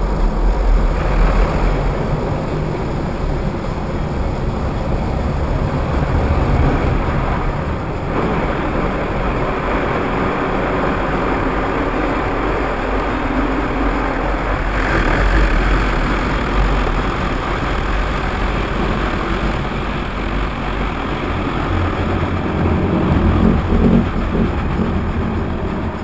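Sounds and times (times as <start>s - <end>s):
car wash machinery: 0.0s - 26.0s.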